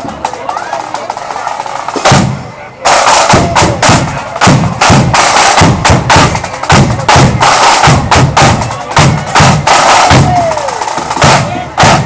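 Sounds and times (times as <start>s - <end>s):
side drums playing: 0.0s - 12.0s
bass drum beat: 1.9s - 12.0s.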